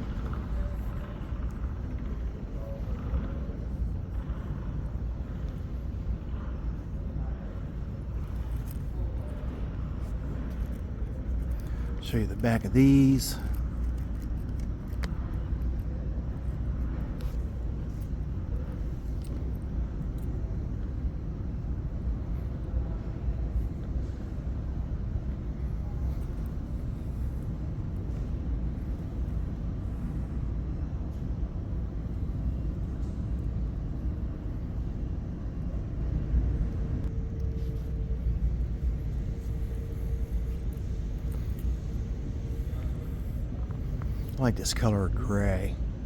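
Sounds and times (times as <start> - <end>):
faint steady hum: 0.0 - 46.0
low rumble of indoor hall: 0.0 - 46.0.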